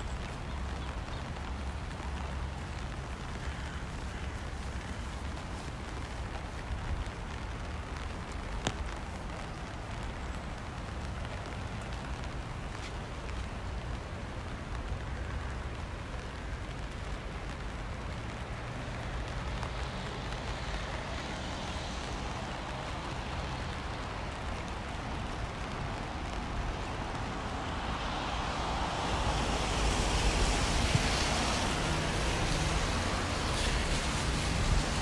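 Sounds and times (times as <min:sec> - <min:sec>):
low traffic rumble: 0:00.0 - 0:35.0
steady rain: 0:00.0 - 0:35.0
tyres hissing on wet road: 0:00.0 - 0:35.0.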